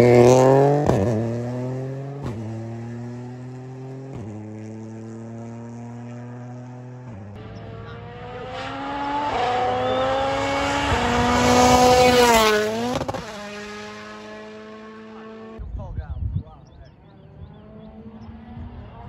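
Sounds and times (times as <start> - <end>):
rally car engine passing: 0.0 - 15.6, 17.0 - 19.0.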